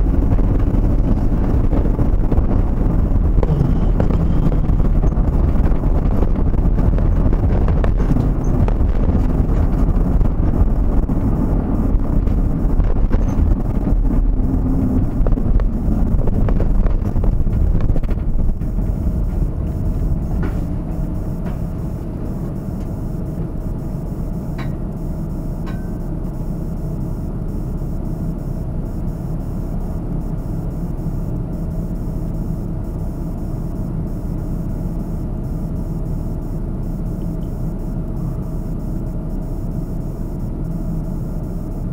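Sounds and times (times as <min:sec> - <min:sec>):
road and engine noise: 0:00.0 - 0:41.9.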